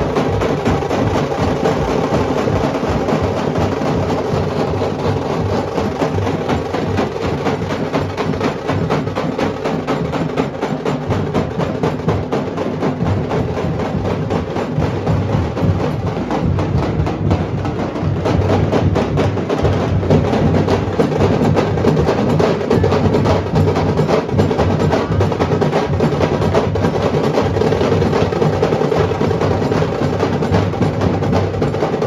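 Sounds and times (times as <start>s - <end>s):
barrel drums beaten fast: 0.0s - 32.0s.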